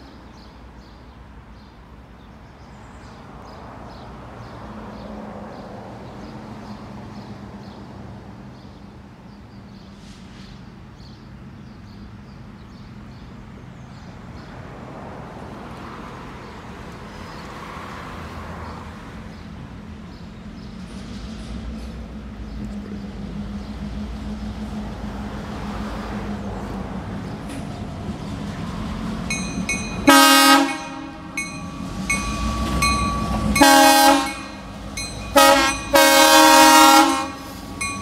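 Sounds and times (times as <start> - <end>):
diesel locomotive engine hum: 0.0 - 38.0.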